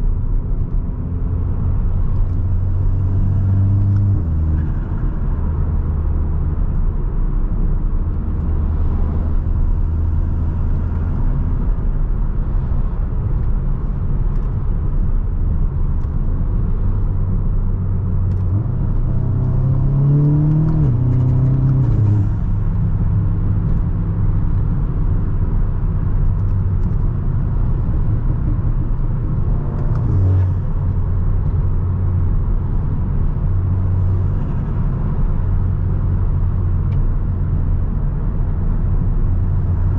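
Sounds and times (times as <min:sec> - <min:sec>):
car engine cruising and revving: 0:00.0 - 0:39.9
road noise: 0:00.0 - 0:39.9.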